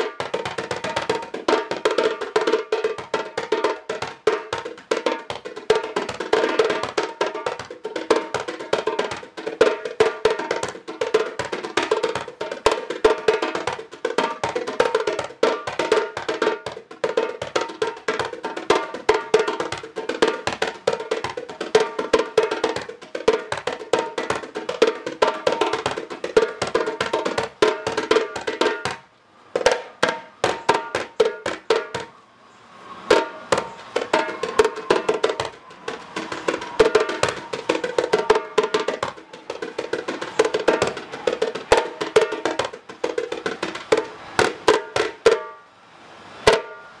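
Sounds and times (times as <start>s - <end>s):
djembe hand drumming: 0.0s - 32.1s, 33.1s - 45.6s.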